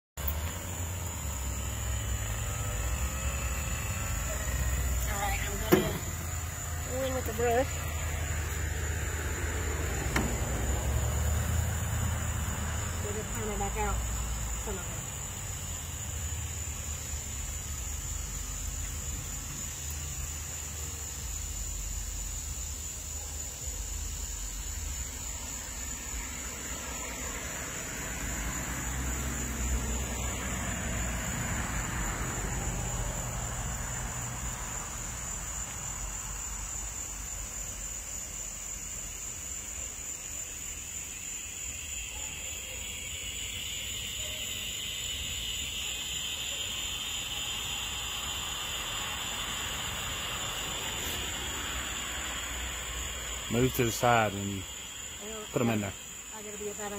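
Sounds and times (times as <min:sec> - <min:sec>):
high-pitched insect drone: 0:00.2 - 0:56.9.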